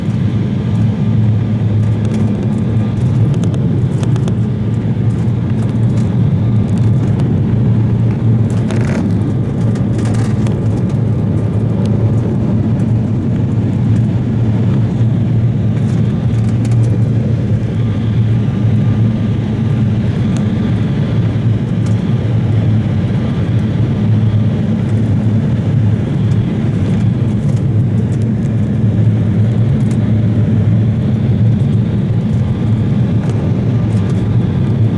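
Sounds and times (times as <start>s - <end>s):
jet cabin airflow and engine noise: 0.0s - 34.9s.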